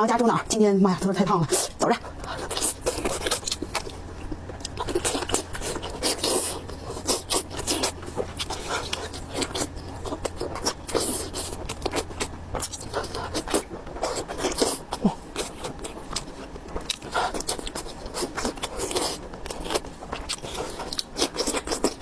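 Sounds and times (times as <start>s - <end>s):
faint low hum: 0.0s - 22.0s
chewing and mouth smacking: 1.5s - 22.0s.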